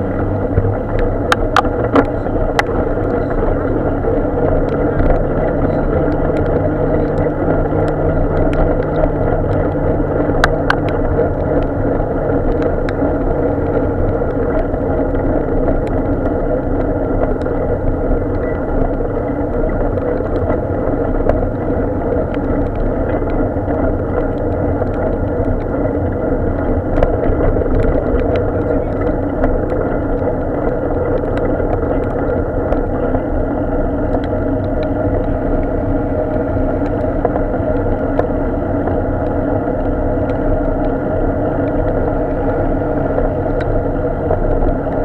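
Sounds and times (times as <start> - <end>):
road and wind noise: 0.0 - 45.0.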